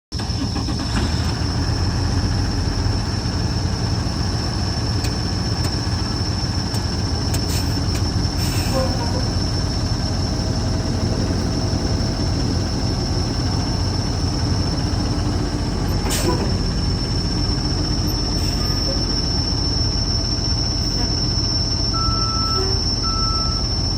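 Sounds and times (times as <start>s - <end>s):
diesel truck engine idling: 0.1s - 23.9s.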